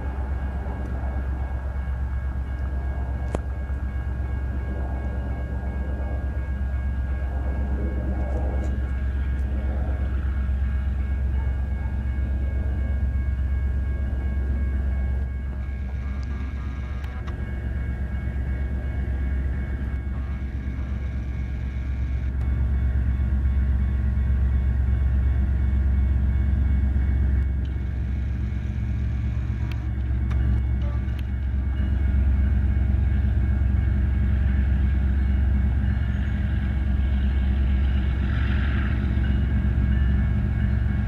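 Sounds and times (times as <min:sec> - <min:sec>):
freight locomotive rumbling: 0:00.0 - 0:41.0.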